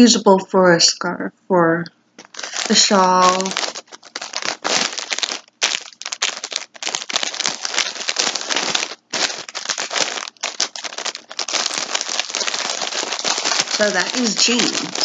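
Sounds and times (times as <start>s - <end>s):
packaging crinkling: 2.2s - 15.0s.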